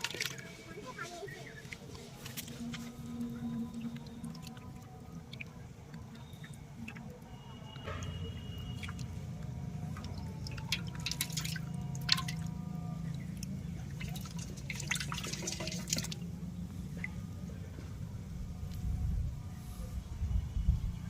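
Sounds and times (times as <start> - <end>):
water dripping and splashing: 0.0 - 17.4.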